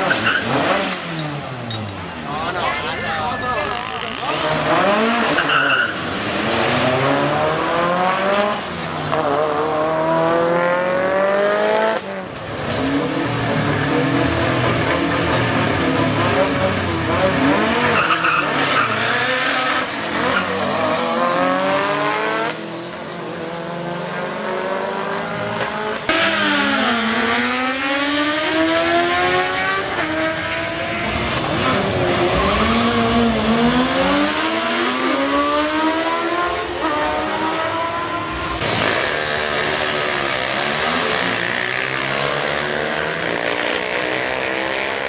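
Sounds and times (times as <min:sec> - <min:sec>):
race car engines accelerating: 0:00.0 - 0:45.0.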